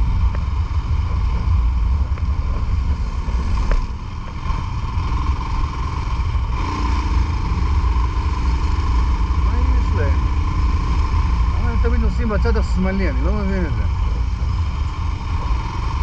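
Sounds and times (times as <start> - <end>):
motorcycle engine rumble: 0.0 - 16.0.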